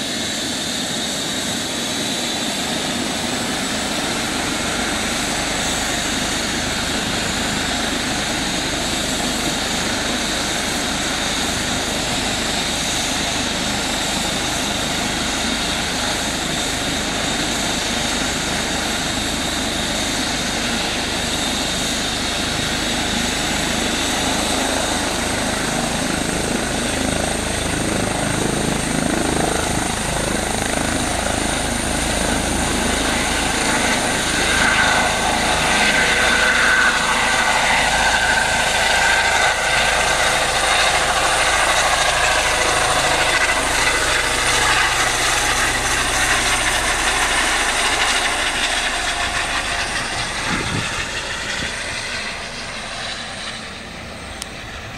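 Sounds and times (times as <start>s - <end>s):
helicopter turbine whine: 0.0s - 54.9s.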